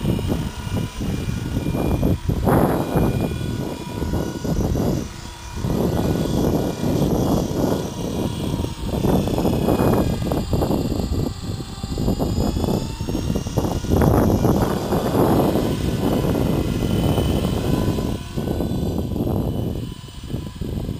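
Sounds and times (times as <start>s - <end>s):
model helicopter motor whine: 0.0s - 20.9s
wind buffeting microphone: 0.0s - 20.9s.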